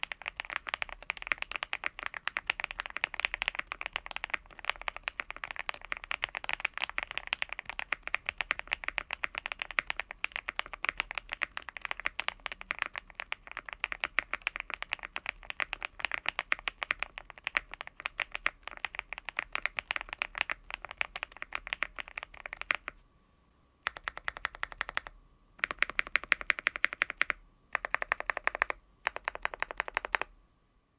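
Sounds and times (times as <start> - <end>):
mechanical keyboard typing: 0.0 - 23.0, 23.8 - 30.3.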